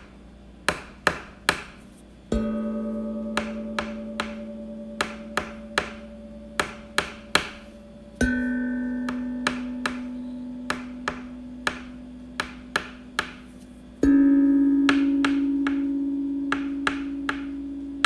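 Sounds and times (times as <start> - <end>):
plucked notes: 2.3 - 18.0.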